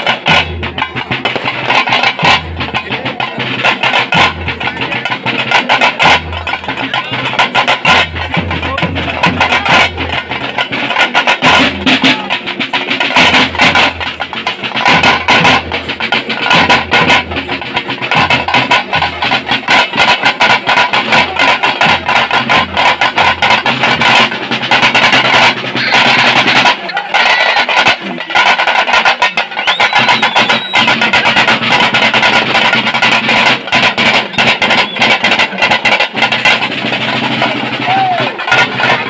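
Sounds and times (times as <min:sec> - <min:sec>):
drums beaten fast with sticks: 0:00.0 - 0:39.0.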